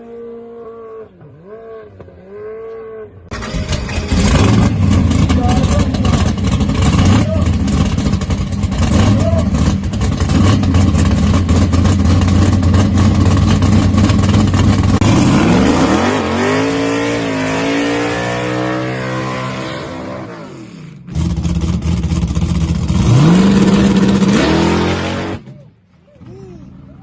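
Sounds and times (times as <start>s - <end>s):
drag racing car engine accelerating: 0.0s - 25.6s
engine revving sharply: 0.7s - 22.0s, 22.8s - 25.6s.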